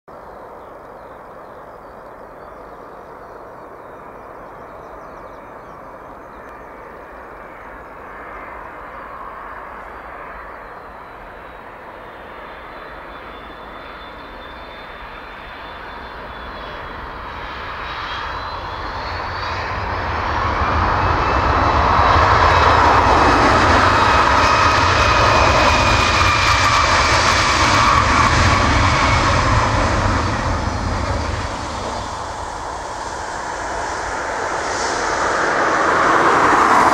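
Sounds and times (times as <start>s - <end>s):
jet engine whine: 0.1s - 36.9s
jet engine reverse thrust roar: 0.2s - 36.9s.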